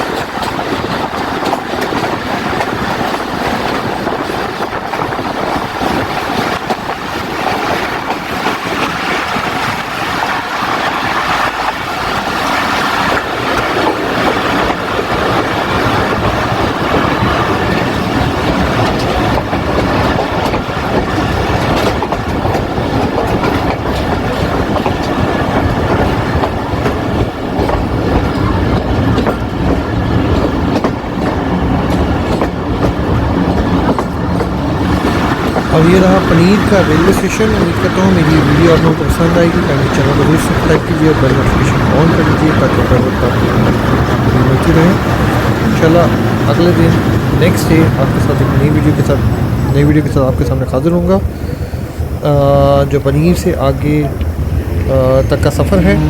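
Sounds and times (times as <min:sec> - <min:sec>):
train rumbling with wheel clatter: 0:00.0 - 0:56.0.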